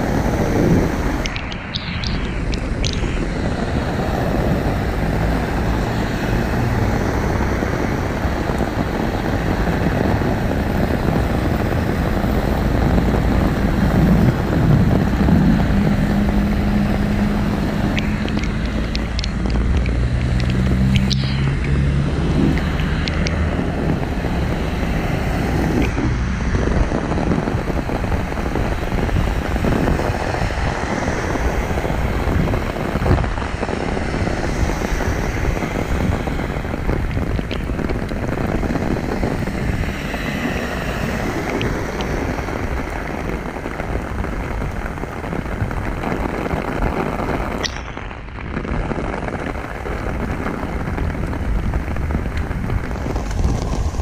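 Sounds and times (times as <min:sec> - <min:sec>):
tyres hissing through water: 0:00.0 - 0:50.9
heavy rain pouring: 0:00.0 - 0:54.0
low engine hum: 0:00.0 - 0:54.0.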